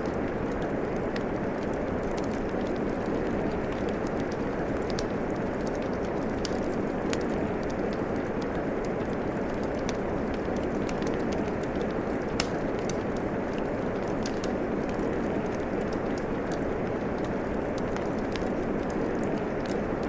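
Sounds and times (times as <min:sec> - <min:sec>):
steady rain hiss: 0:00.0 - 0:20.0
wood fire crackling: 0:00.0 - 0:20.0.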